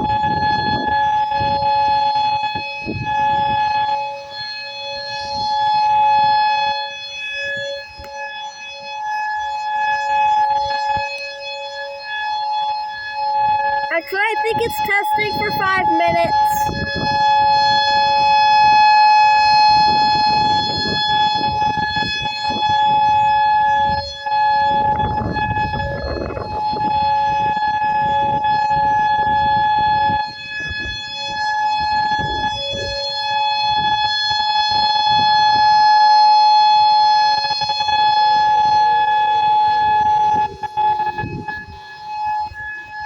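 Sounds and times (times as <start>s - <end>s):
lower steady siren tone: 0.0s - 43.0s
warning siren steady high tone: 0.0s - 43.0s.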